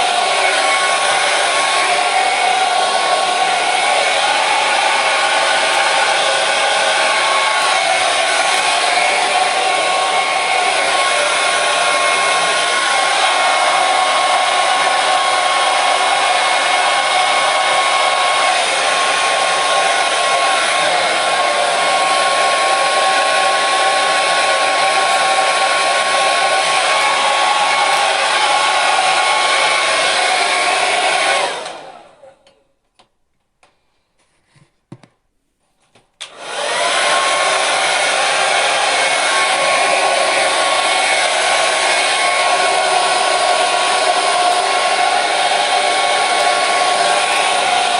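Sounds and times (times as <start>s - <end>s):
hair dryer blowing: 0.0s - 32.5s, 36.2s - 47.9s.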